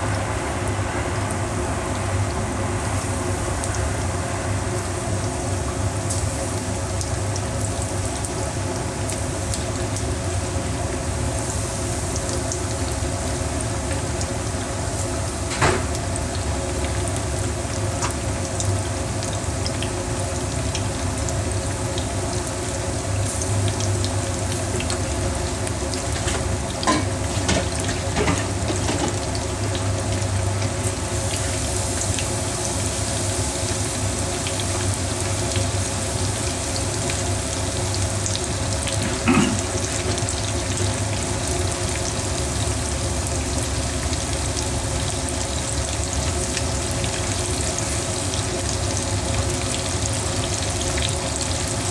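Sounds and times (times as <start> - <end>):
meat sizzling in hot oil: 0.0 - 51.9.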